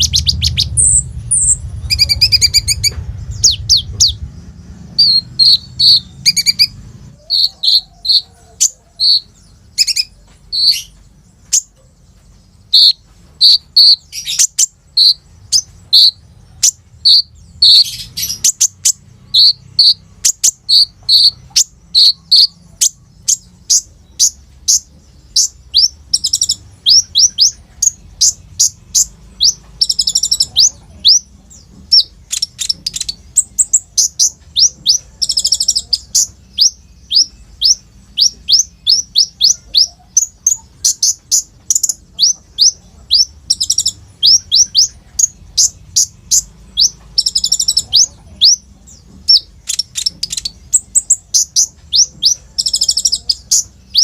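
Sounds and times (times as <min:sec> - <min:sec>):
high sharp bird chirps: 0:00.0 - 0:54.0.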